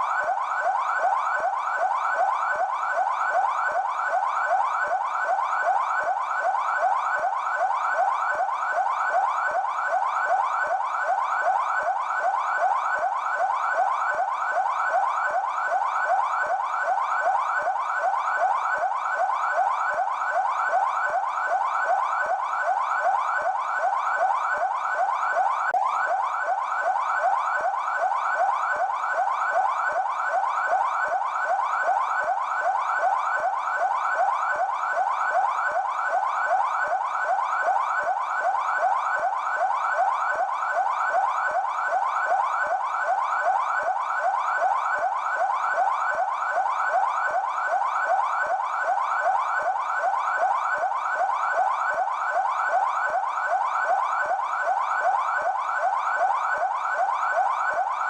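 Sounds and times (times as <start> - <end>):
police siren yelp: 0.0 - 58.0.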